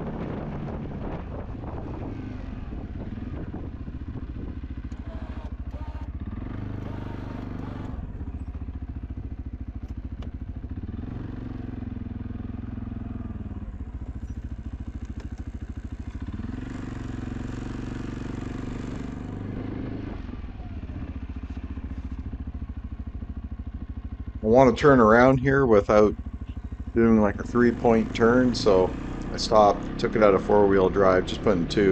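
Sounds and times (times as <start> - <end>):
atv engine running: 0.0 - 31.9.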